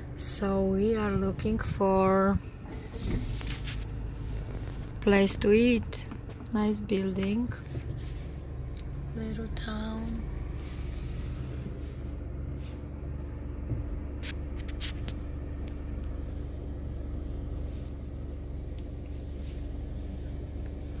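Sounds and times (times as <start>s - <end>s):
engine and tyre rumble: 0.0s - 21.0s
faint steady hum: 0.0s - 21.0s.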